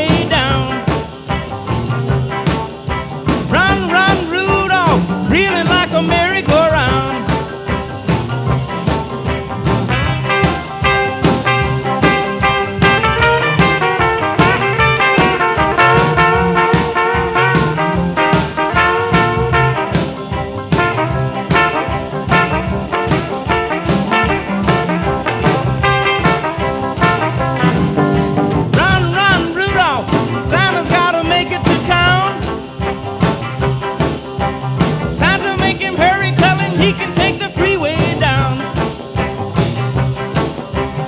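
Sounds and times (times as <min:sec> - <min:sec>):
rock and roll music with brass: 0:00.0 - 0:41.0.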